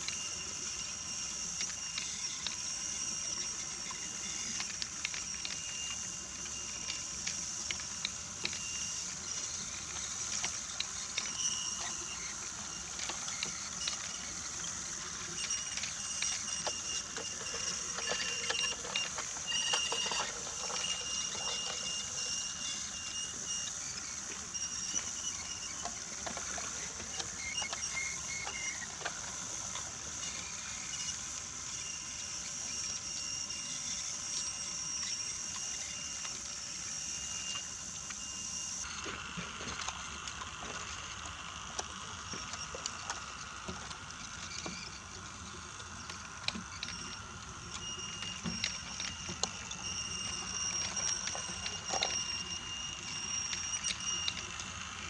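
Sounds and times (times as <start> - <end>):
toy train motor whining: 0.0 - 55.0
wheels clicking over track joints: 0.0 - 55.0.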